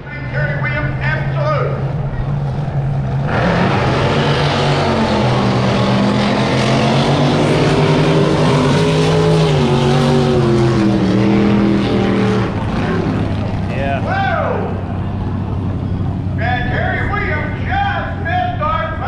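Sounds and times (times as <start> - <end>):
drag boat engine droning: 0.0 - 19.0.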